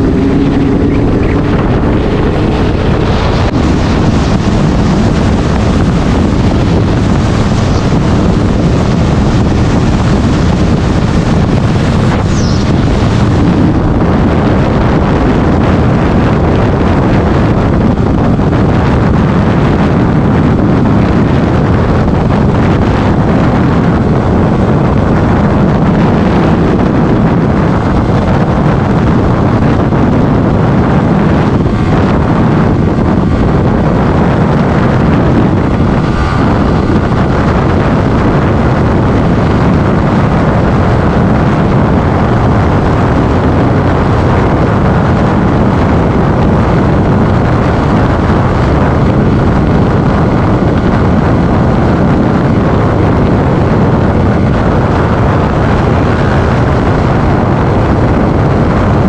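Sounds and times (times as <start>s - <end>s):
motorcycle engine: 0.0s - 19.8s, 21.0s - 50.4s
road noise: 0.0s - 59.0s
wind on microphone: 0.0s - 59.0s.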